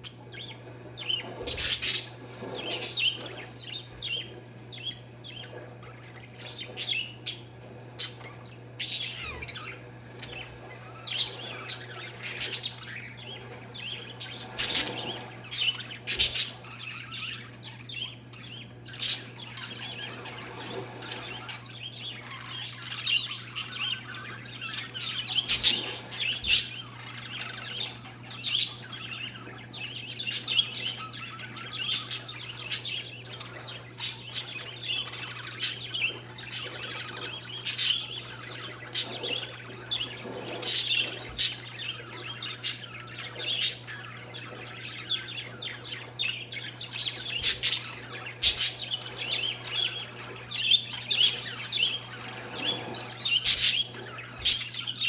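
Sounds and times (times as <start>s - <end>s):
small birds chirping: 0.0s - 55.0s
steady low hum: 0.0s - 55.0s.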